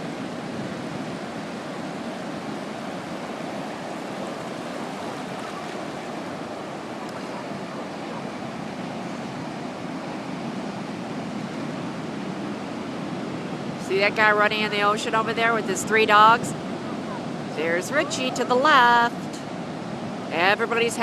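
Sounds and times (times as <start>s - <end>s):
ocean surf breaking on beach: 0.0s - 21.0s.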